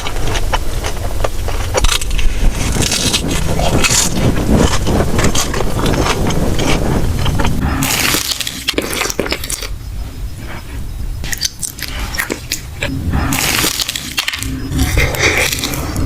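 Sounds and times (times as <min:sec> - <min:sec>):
crunchy food being chewed: 0:00.0 - 0:09.8, 0:10.4 - 0:16.0.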